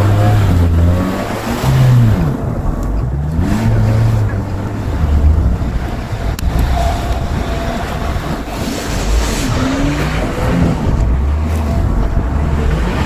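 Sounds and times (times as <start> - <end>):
car engine running under load: 0.0 - 13.0
heavy low rumble: 0.0 - 13.0.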